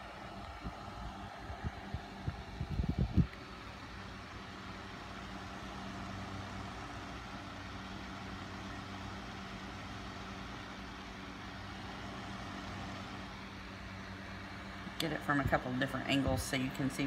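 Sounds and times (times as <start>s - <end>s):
electric fan humming: 0.0s - 17.0s.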